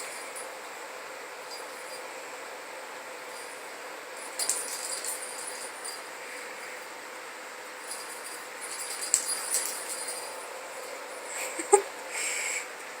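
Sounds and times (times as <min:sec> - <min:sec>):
small jingle bell jingling: 0:00.0 - 0:06.9, 0:07.7 - 0:12.0.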